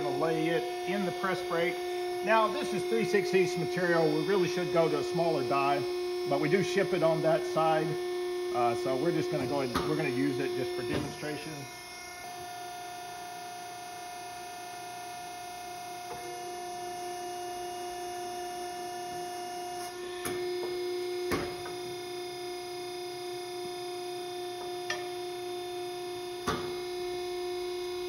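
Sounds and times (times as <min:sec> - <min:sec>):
hydraulic motor and pump humming: 0:00.0 - 0:28.0.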